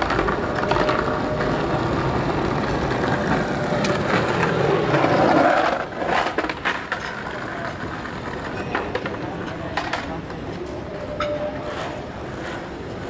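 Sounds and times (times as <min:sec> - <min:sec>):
skateboard rolling on pavement: 0:00.0 - 0:13.0.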